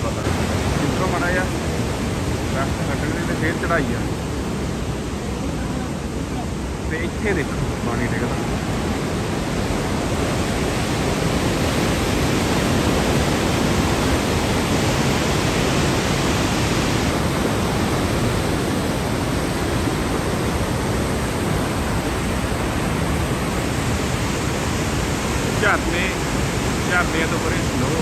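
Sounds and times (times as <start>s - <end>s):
whitewater rushing over rapids: 0.0s - 28.0s.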